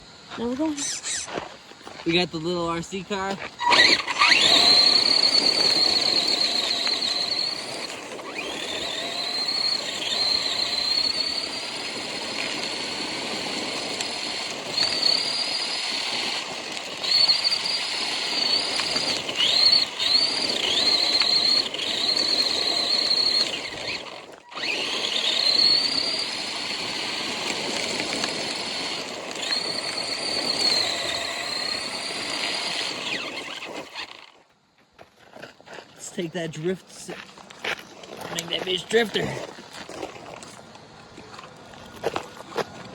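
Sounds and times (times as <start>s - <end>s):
drivetrain and wheel noise: 0.0s - 42.9s
rc car motor whining: 0.1s - 1.5s, 2.4s - 34.6s, 36.1s - 40.6s.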